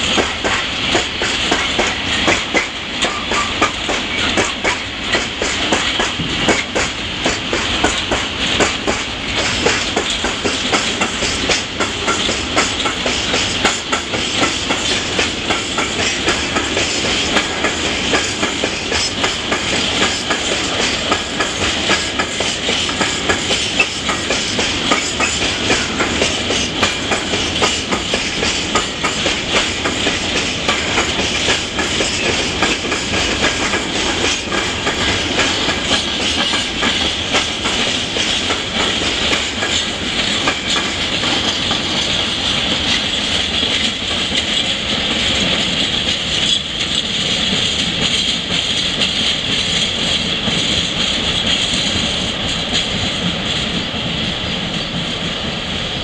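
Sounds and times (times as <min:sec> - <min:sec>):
freight train wheels clattering: 0:00.0 - 0:56.0
train rolling noise: 0:00.0 - 0:56.0.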